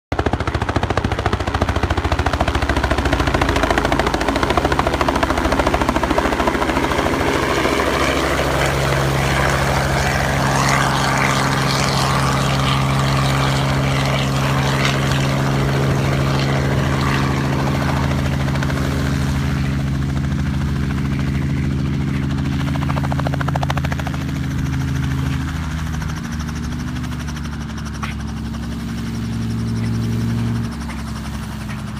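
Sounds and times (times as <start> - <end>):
helicopter rotor and engine: 0.1 - 31.9.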